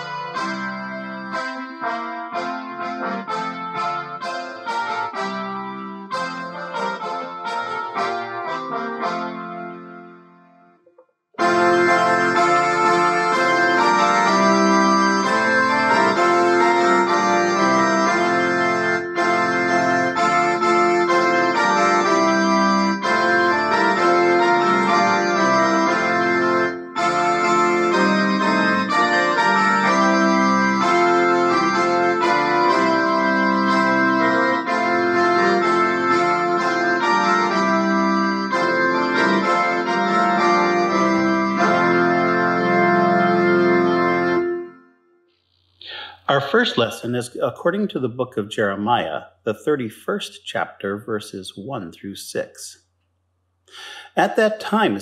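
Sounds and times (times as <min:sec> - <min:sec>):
organ chords on keyboard: 0:00.0 - 0:49.9, 0:53.7 - 0:55.0.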